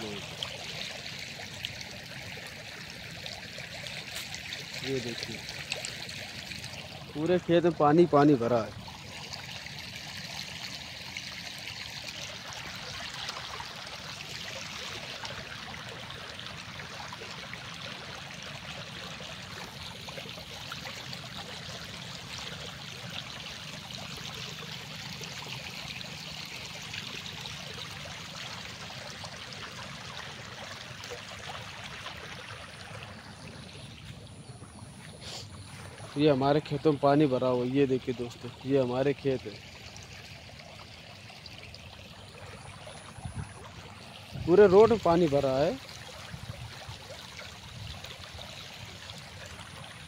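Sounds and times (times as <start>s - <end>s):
flowing trickling water: 0.0s - 50.0s.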